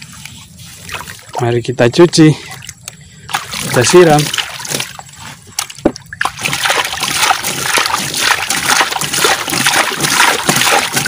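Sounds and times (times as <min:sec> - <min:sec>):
water splashing on plastic: 0:00.0 - 0:01.6, 0:02.5 - 0:11.0
water streaming into water: 0:00.0 - 0:01.6, 0:02.4 - 0:11.0.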